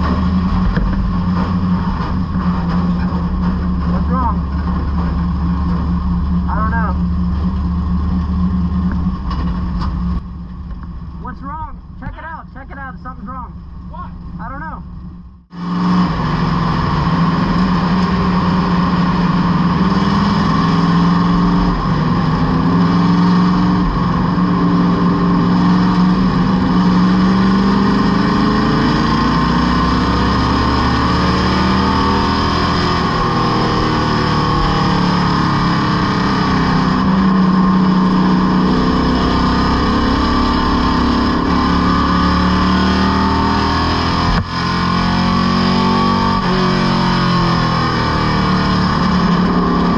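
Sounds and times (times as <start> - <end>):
race car engine: 0.0 - 49.9.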